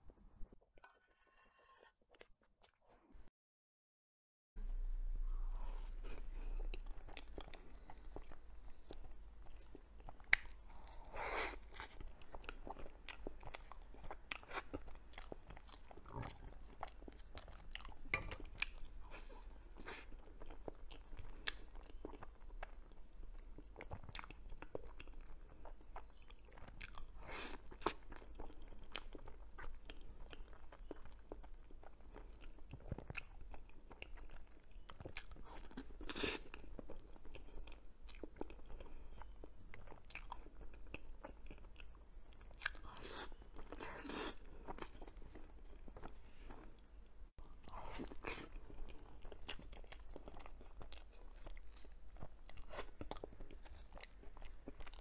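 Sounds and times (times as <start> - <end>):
person chewing cake: 0.4 - 3.0, 5.2 - 55.0.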